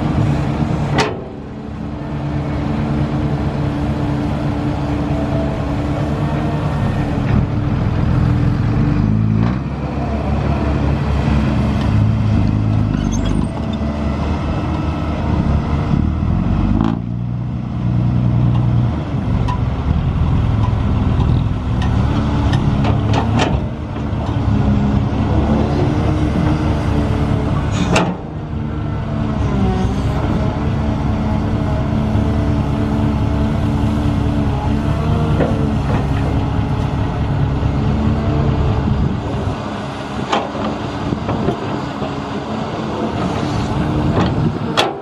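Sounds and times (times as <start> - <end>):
heavy machinery diesel engine: 0.0 - 45.0.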